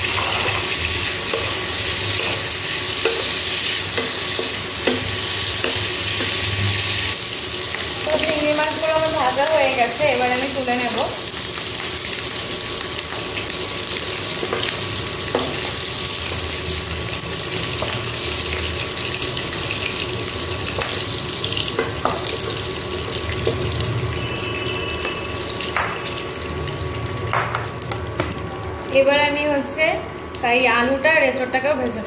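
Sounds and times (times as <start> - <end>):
prawns sizzling in hot oil: 0.0 - 28.3.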